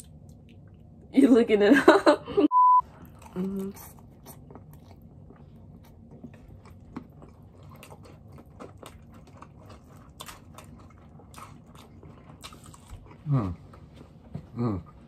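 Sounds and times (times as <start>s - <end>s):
mouth chewing sounds: 2.8s - 15.0s.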